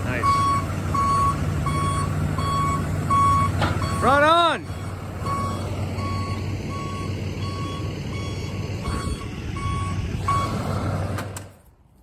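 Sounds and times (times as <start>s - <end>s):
truck backup alarm beeping: 0.0s - 10.9s
truck engine running low: 0.0s - 11.7s.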